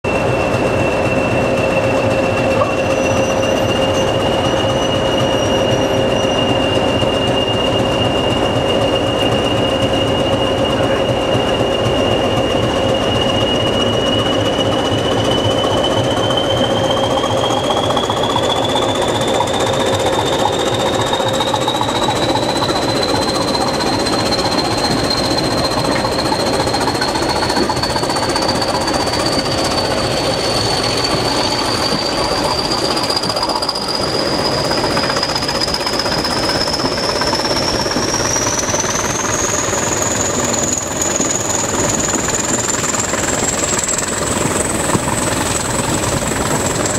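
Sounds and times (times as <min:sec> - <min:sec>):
train rumbling with high whine: 0:00.0 - 0:46.9.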